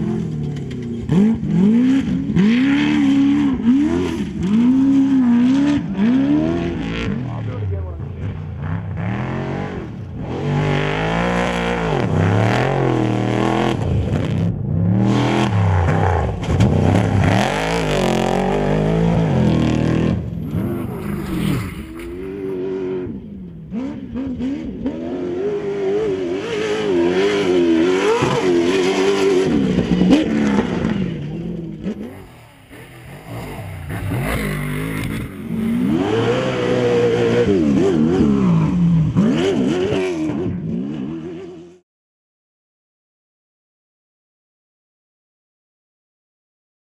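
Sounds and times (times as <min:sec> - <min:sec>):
race vehicle engines revving: 0:00.0 - 0:41.8
vehicles passing: 0:00.0 - 0:41.8.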